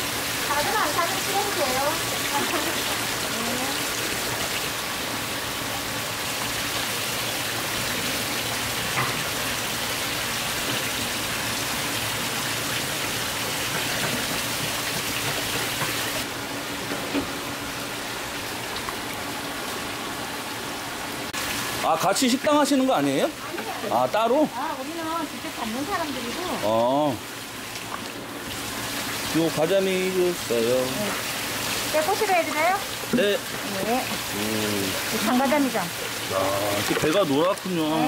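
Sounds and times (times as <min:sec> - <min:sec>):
water splashing into tanks: 0:00.0 - 0:38.0.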